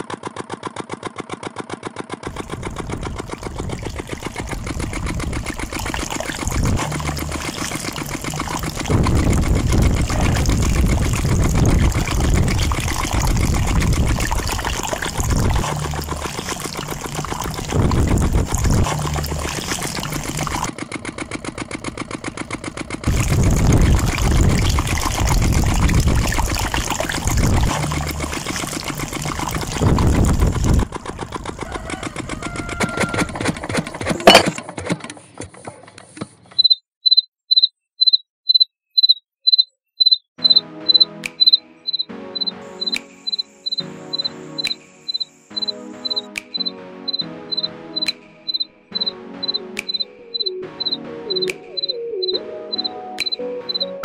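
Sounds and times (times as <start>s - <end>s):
small motor chugging: 0.0s - 36.0s, 42.4s - 50.0s.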